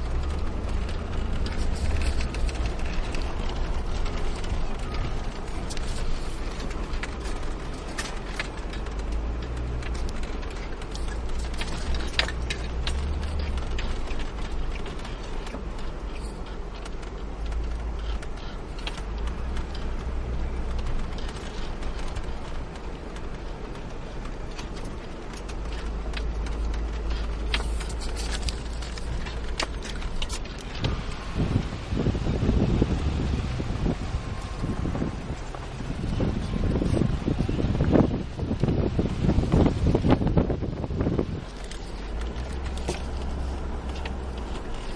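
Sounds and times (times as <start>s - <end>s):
light clicks and ticks: 0.0s - 31.8s, 34.0s - 44.9s
car driving on snowy road: 0.0s - 44.9s.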